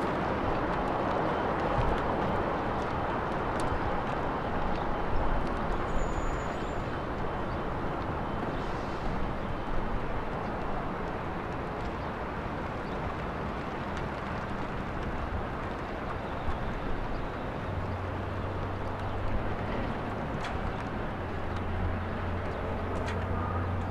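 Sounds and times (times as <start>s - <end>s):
outdoor background noise: 0.0s - 23.9s.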